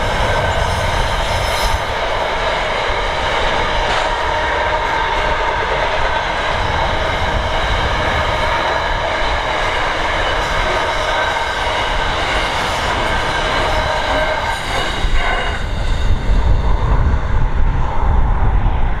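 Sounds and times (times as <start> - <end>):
train wheels squealing: 0.0 - 18.4
freight train rolling past: 0.0 - 19.0
wind rumble on microphone: 0.0 - 19.0.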